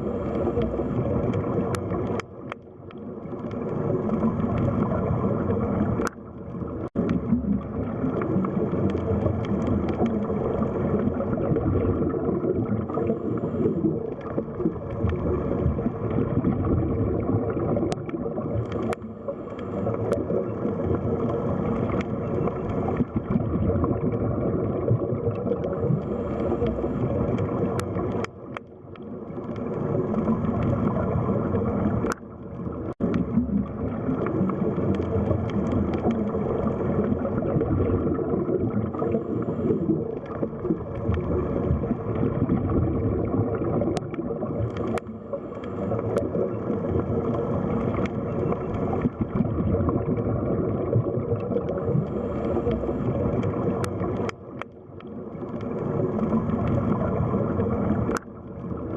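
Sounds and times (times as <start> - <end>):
underwater water gurgling: 0.0 - 58.9.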